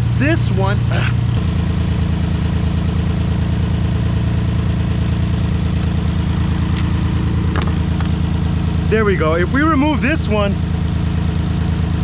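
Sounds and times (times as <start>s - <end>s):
misfiring engine idling: 1.2s - 11.7s.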